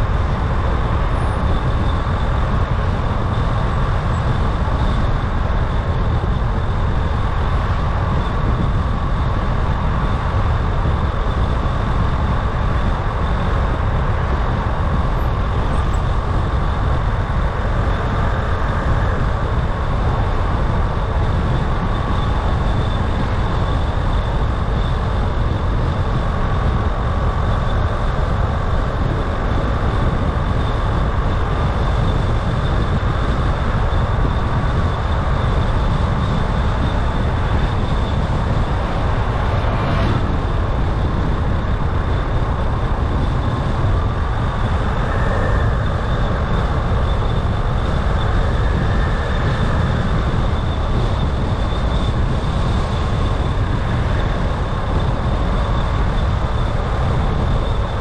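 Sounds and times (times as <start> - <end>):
car engine and tyre rumble: 0.0 - 58.0
faint high whine: 0.0 - 58.0.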